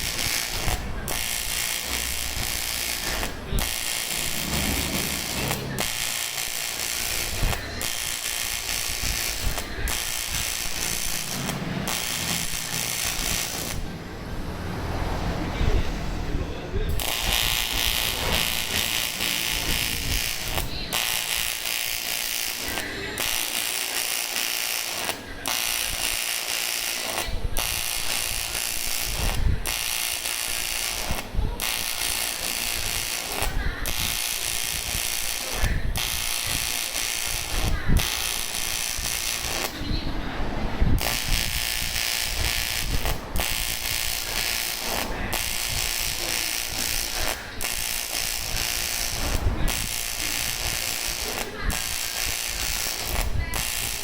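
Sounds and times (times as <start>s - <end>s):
welding arc crackling buzz: 0.0s - 15.4s, 16.8s - 54.0s.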